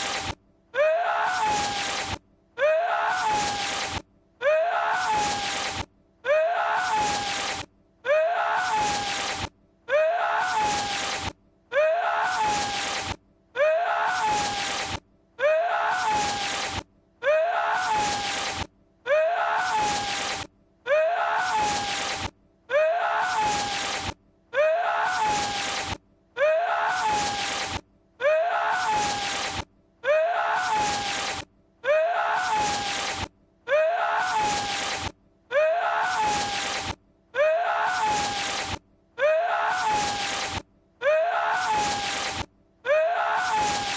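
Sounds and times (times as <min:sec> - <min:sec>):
breathy sneeze-like cry: 0:00.8 - 0:02.0, 0:02.6 - 0:05.7, 0:06.3 - 0:13.0, 0:13.6 - 0:14.8, 0:15.4 - 0:22.1, 0:22.7 - 0:24.0, 0:24.6 - 0:25.8, 0:26.4 - 0:33.1, 0:33.7 - 0:43.9.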